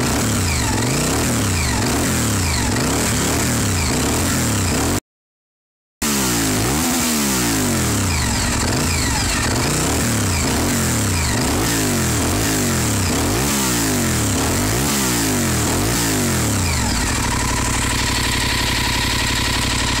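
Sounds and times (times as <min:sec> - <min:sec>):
motorcycle engine idling: 0:00.0 - 0:05.0, 0:06.6 - 0:20.0
motorcycle engine revving: 0:00.0 - 0:05.0, 0:06.0 - 0:20.0.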